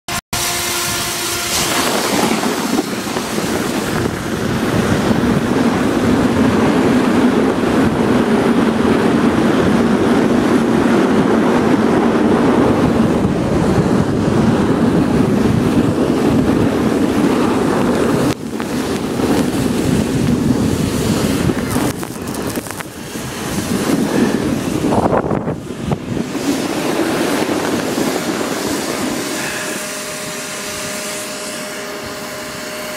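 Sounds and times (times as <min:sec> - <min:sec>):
tube scraping on track: 0:00.4 - 0:32.9
wind rushing on microphone: 0:00.4 - 0:32.9.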